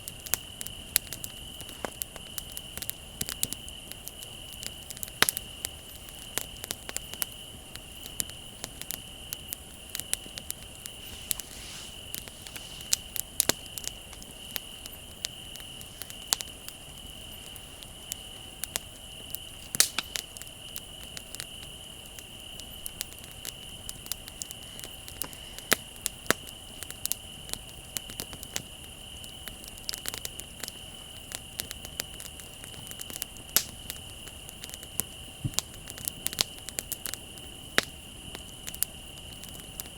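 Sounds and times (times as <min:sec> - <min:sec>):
bonfire crackling: 0:00.0 - 0:39.9
crickets chirring: 0:00.0 - 0:39.9.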